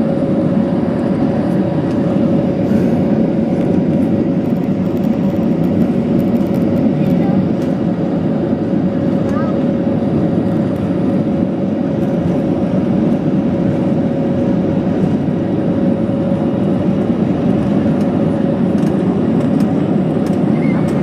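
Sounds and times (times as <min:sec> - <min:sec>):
constant hum: 0:00.0 - 0:21.0
jet engine rumble in cabin: 0:00.0 - 0:21.0.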